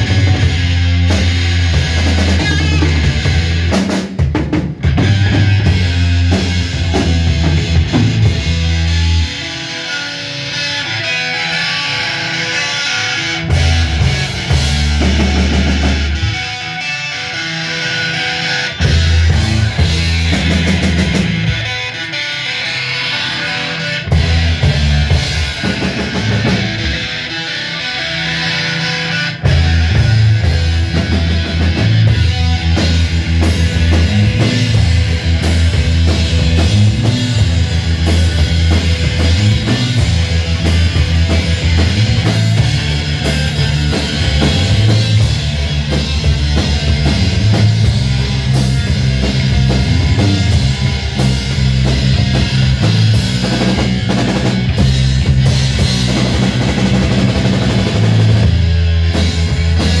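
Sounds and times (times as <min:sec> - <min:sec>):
drum kit beats: 0:00.0 - 1:00.0
electric bass line: 0:00.0 - 1:00.0
electric guitar: 0:00.0 - 1:00.0.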